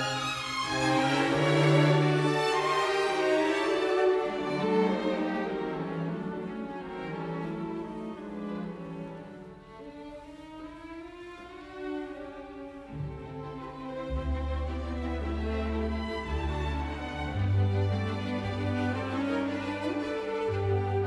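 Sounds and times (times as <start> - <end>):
string ensemble holding notes: 0.0 - 21.0.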